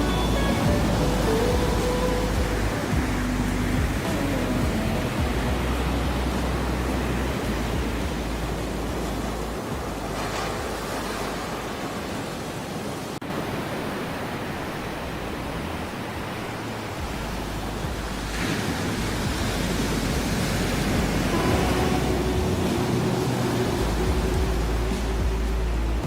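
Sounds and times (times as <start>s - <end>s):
ocean waves washing in: 0.0s - 26.0s.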